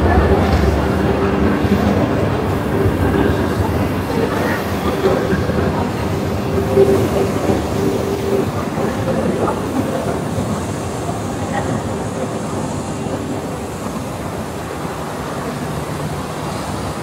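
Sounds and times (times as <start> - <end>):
exhibition hall ambient noise: 0.0 - 17.0.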